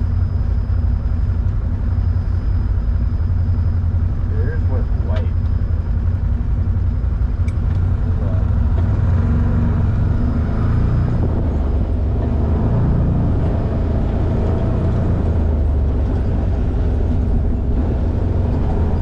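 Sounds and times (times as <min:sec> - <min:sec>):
off-road vehicle engine droning: 0:00.0 - 0:19.0.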